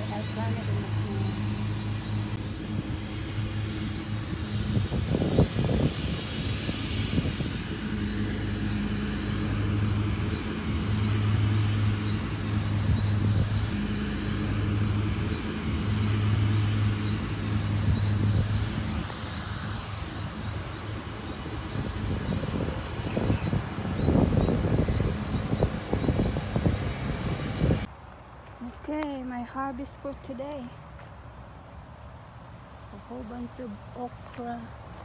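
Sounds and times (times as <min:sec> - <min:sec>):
low motor hum: 0:00.0 - 0:35.0.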